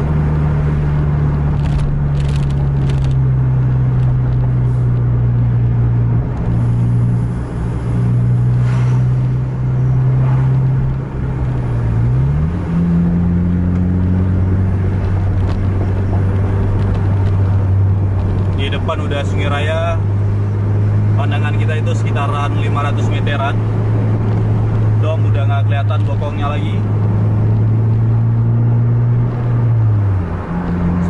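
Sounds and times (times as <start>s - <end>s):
car engine: 0.0s - 31.0s.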